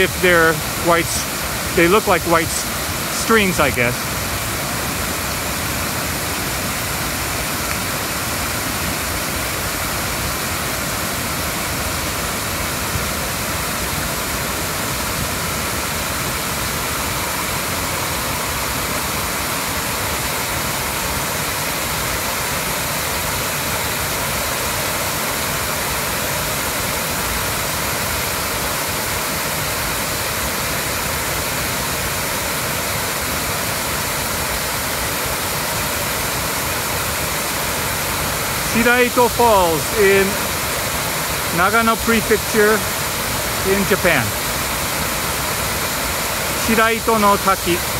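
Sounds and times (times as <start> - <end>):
waterfall splashing into pool: 0.0 - 47.9.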